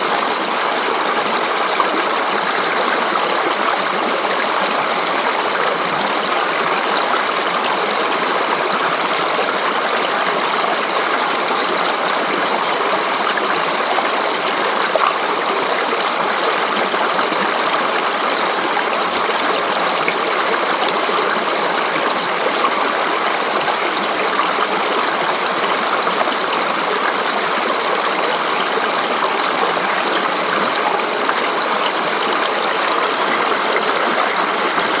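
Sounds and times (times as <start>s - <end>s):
stream splashing over rocks: 0.0s - 35.0s.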